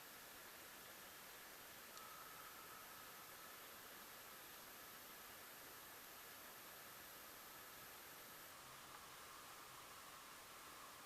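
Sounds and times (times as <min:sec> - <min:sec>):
faint hiss: 0:00.0 - 0:11.0
thin high-pitched whine: 0:00.0 - 0:11.0.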